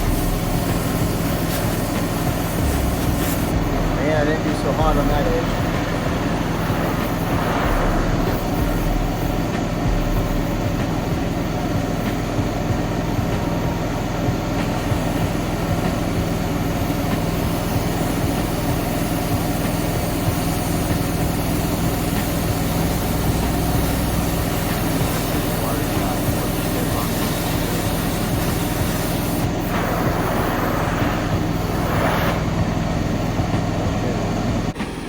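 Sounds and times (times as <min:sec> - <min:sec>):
even hiss: 0:00.0 - 0:11.1, 0:14.6 - 0:35.0
steady machine drone: 0:00.0 - 0:35.0.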